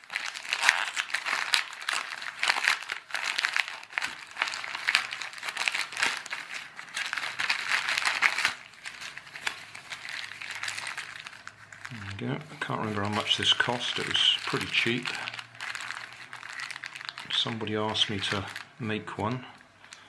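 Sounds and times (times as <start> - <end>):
plastic bag crinkling and tearing: 0.0 - 20.0.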